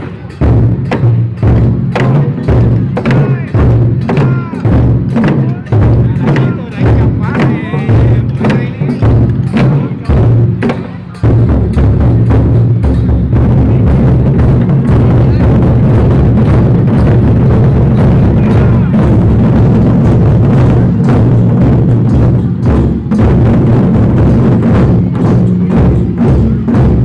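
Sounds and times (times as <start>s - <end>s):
barrel drums beating: 0.0s - 27.0s.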